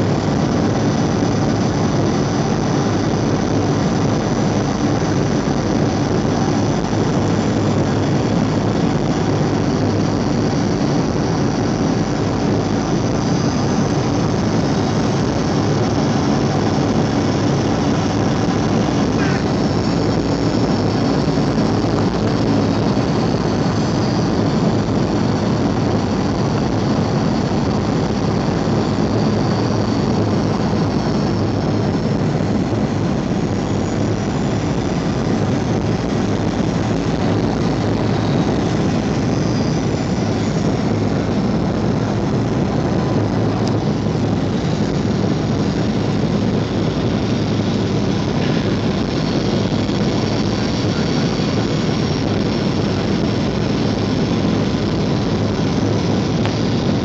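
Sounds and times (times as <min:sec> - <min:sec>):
faint steady whine: 0:00.0 - 0:57.0
jet engines and airflow: 0:00.0 - 0:57.0.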